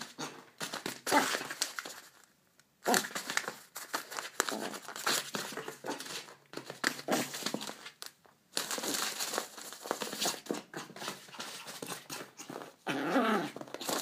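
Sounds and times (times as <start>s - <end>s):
paper crinkling and rustling: 0.6s - 12.7s, 13.5s - 14.0s.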